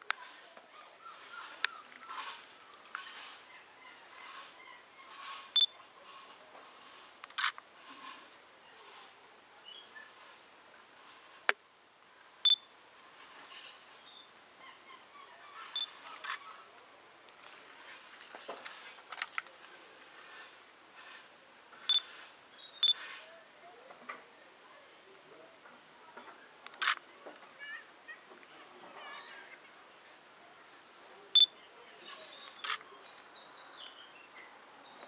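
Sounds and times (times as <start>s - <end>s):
faint outdoor background: 0.0s - 35.0s.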